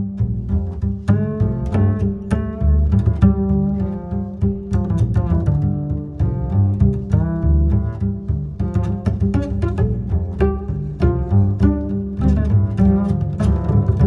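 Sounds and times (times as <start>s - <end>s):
plucked and bowed strings: 0.0s - 14.0s
plucked bass line: 0.0s - 14.0s.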